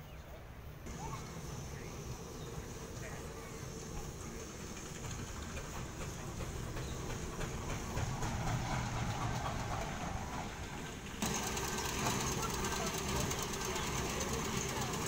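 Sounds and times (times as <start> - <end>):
old engine idling: 0.9 - 15.0.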